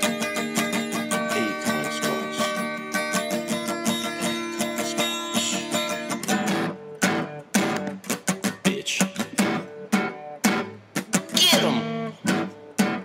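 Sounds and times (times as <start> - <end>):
guitar chords and plucked notes: 0.0 - 13.0.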